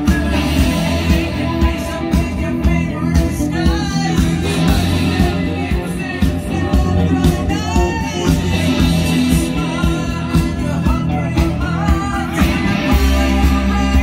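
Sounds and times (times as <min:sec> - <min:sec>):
rock song with singer: 0:00.0 - 0:14.0.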